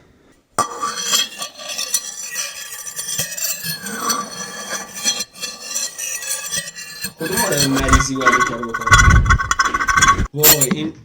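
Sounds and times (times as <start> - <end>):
hard objects scraping and clinking: 0.6 - 10.8
high squeal: 1.0 - 10.7.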